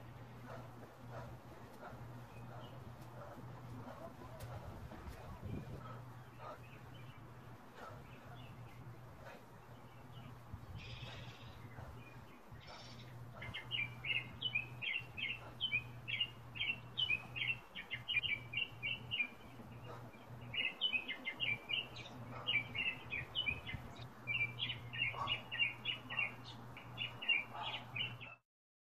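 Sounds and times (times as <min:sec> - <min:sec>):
songbird chirping: 0:00.0 - 0:28.4
steady low hum: 0:00.0 - 0:28.4.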